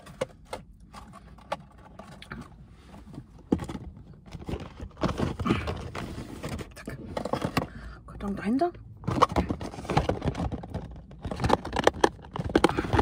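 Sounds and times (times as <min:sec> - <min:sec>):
rustling and scraping: 0:00.0 - 0:07.8, 0:09.0 - 0:13.0.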